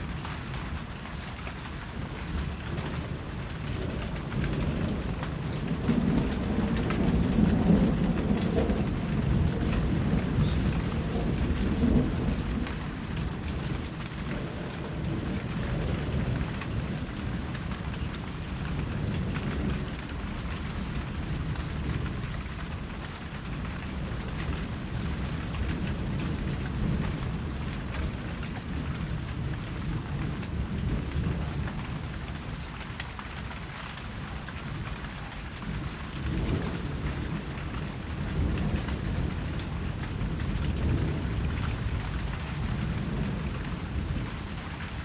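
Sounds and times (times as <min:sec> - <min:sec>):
steady rain: 0:00.0 - 0:45.0
distant thunder rolling: 0:02.1 - 0:32.7, 0:34.6 - 0:45.0.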